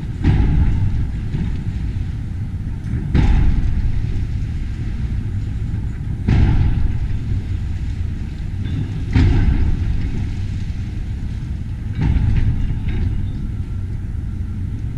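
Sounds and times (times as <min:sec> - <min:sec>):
crunching surges: 0:00.0 - 0:14.9
demolition machine rumbling: 0:00.0 - 0:14.9.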